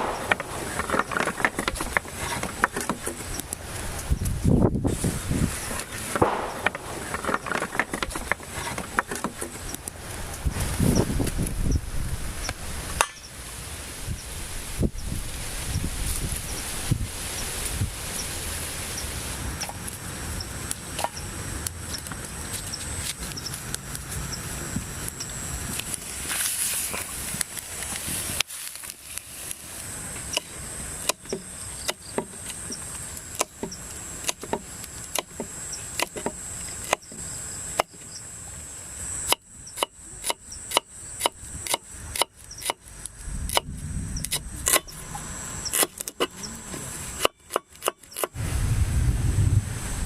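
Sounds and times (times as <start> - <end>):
high-pitched whine: 0.0 - 47.4.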